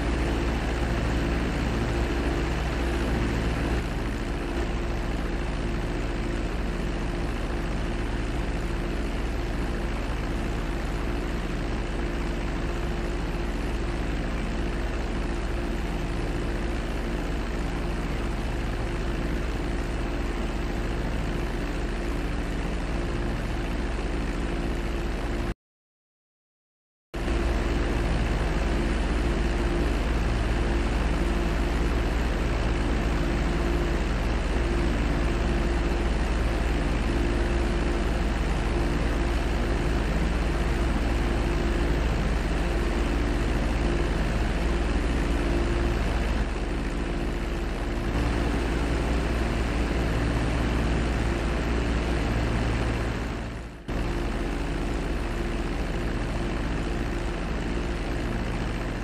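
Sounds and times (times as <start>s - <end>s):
propeller aircraft engines droning: 0.0s - 25.5s, 27.2s - 59.0s.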